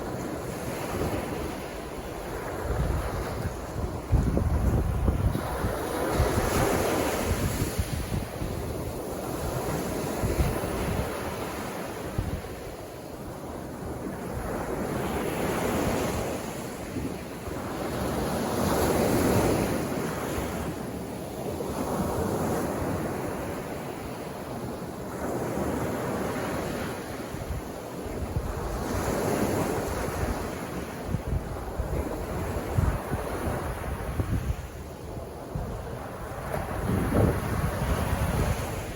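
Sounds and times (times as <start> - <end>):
wind rumbling on microphone: 0.0 - 20.8, 25.1 - 38.9.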